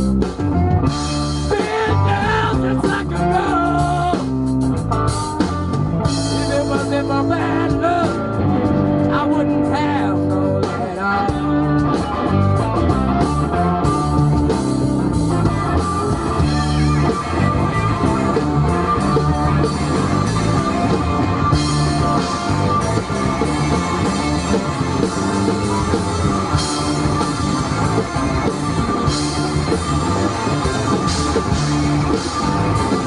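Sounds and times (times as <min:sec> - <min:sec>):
instrumental rock band playing: 0:00.0 - 0:33.0.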